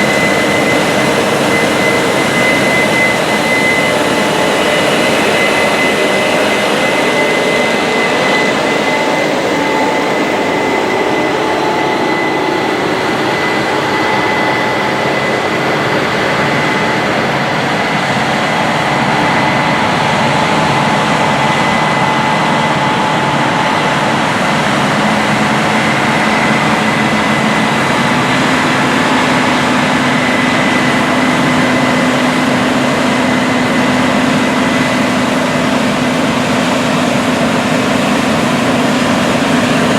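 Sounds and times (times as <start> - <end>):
farm machinery engine running: 0.0 - 39.9
high machine whine: 0.0 - 39.9
low machine hum: 0.0 - 39.9.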